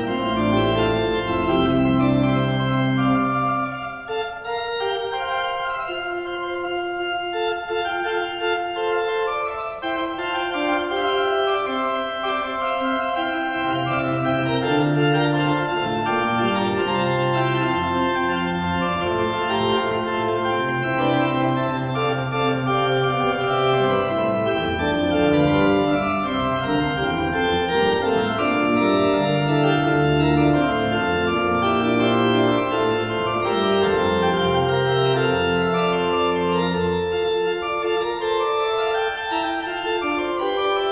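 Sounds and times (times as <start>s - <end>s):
pipe organ playing: 0.0s - 40.9s.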